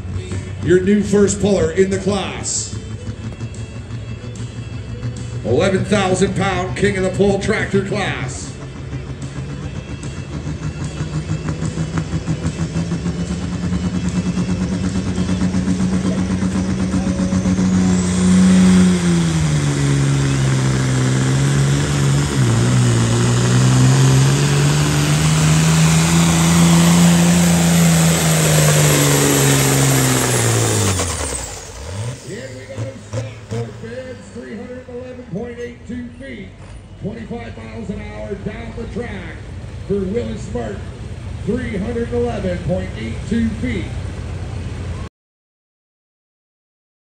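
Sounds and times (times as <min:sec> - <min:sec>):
tractor diesel engine revving: 0:00.0 - 0:45.1.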